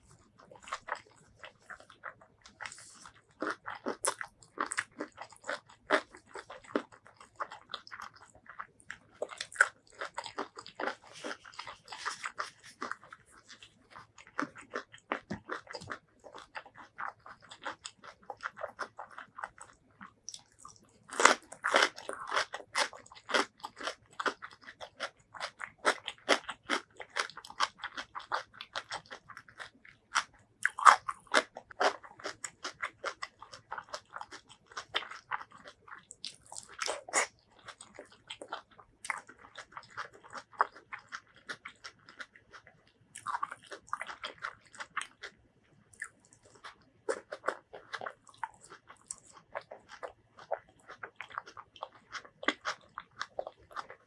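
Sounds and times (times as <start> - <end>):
crunching bites and chewing: 0.0 - 54.0.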